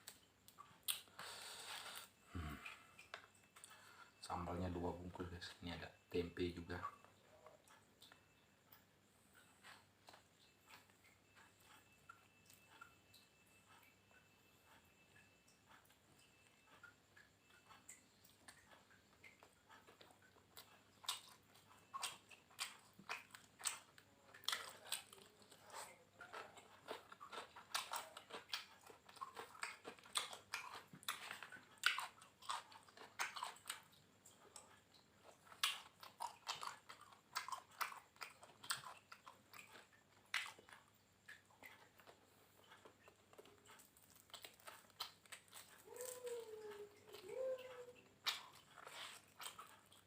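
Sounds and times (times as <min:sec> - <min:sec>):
crunching and chewing food: 0:00.0 - 0:50.0.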